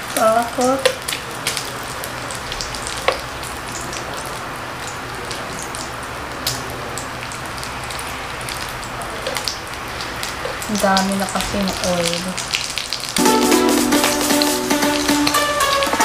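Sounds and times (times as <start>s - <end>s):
meat sizzling on a grill: 0.0s - 13.1s.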